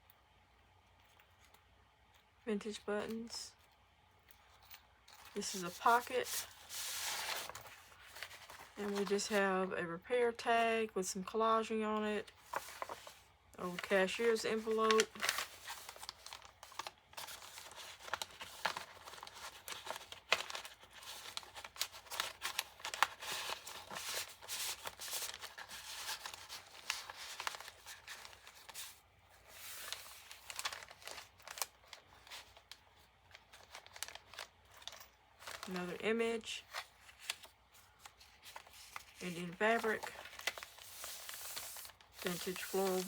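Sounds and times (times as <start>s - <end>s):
paper rustling and crinkling: 5.3s - 9.4s, 12.2s - 43.0s.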